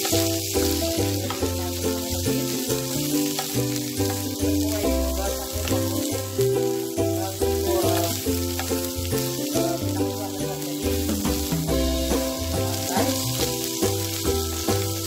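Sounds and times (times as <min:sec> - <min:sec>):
background music with bass line: 0:00.0 - 0:15.0
food sizzling in a wok: 0:00.0 - 0:15.0.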